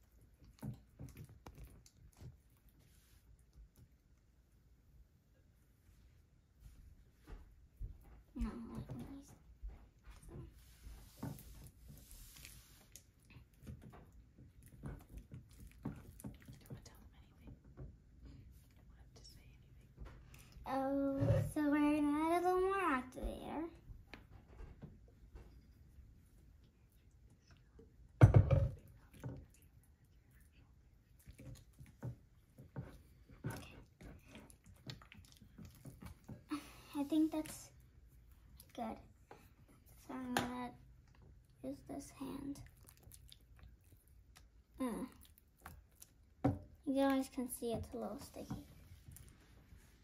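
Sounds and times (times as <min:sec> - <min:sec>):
spatula stirring slime squelches: 0:00.0 - 0:28.2, 0:28.8 - 0:50.0.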